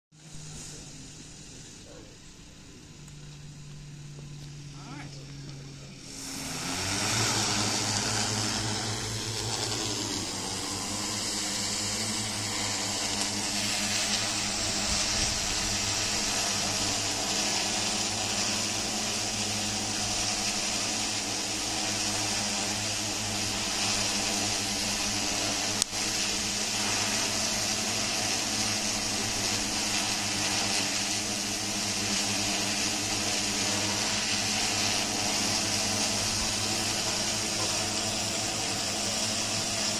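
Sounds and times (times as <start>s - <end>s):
drone rotors buzzing: 0.2s - 39.9s.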